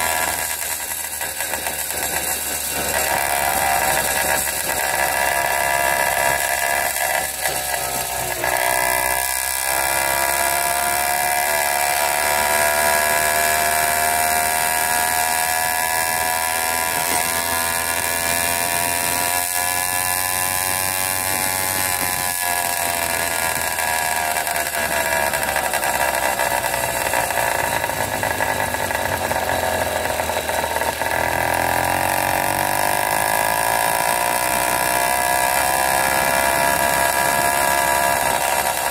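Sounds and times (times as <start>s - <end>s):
two-stroke bicycle engine running: 0.0s - 38.9s.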